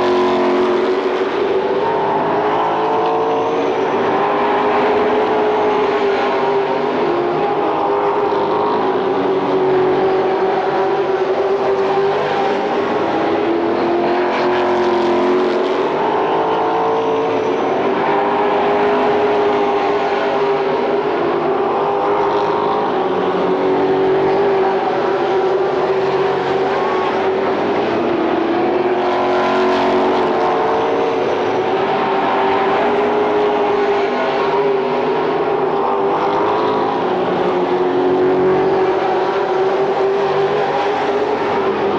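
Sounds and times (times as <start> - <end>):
race car engines roaring: 0.0 - 41.9.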